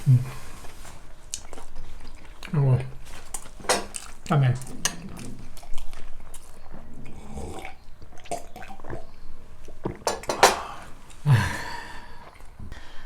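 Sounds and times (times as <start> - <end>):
person chewing: 0.0 - 12.6.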